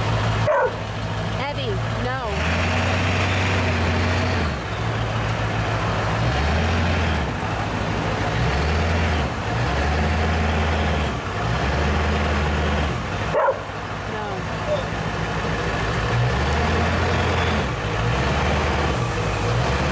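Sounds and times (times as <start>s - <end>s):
truck engine hum: 0.0s - 19.9s.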